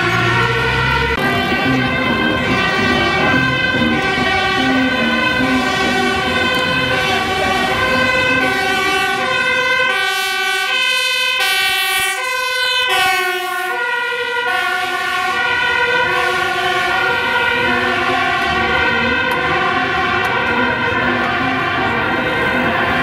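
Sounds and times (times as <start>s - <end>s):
two-tone siren: 0.0s - 23.0s.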